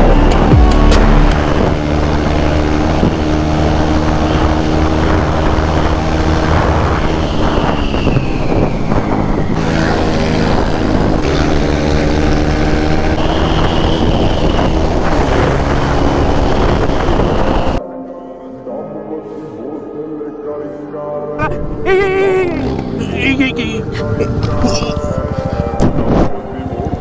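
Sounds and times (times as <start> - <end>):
motorcycle engine running: 0.0 - 17.8, 22.4 - 27.0.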